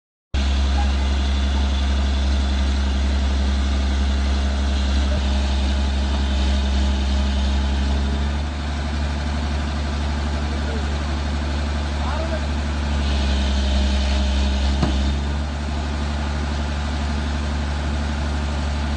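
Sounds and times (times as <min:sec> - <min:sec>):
excavator diesel engine humming: 0:00.4 - 0:18.9.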